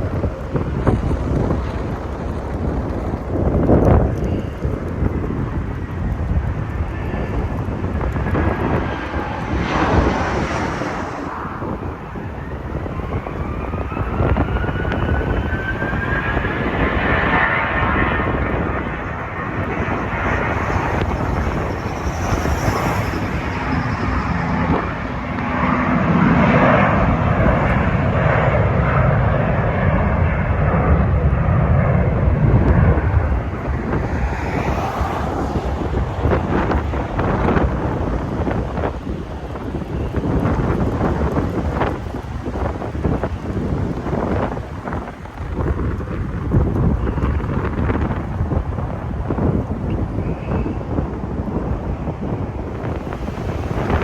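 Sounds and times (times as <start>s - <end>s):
jet low rumble: 0.0s - 54.0s
jet turbine whine: 0.0s - 54.0s
wind buffeting microphone: 0.0s - 54.0s.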